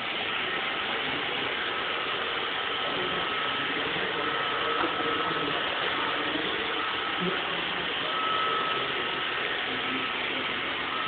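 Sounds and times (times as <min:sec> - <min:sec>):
faint high whine: 0:00.0 - 0:11.0
robot vacuum whirring: 0:00.0 - 0:11.0.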